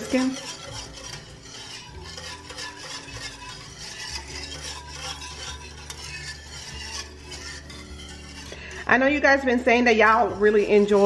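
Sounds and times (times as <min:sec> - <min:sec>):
whisk scraping a pot: 0:00.0 - 0:11.0.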